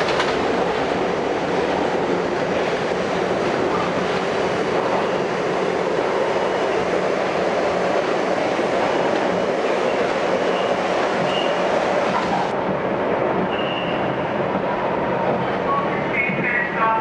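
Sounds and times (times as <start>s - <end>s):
subway car wheels on track: 0.0s - 17.0s.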